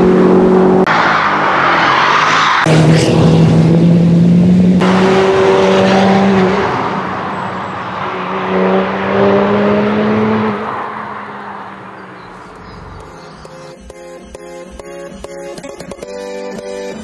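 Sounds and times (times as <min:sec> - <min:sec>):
car engine at high revs: 0:00.0 - 0:13.8.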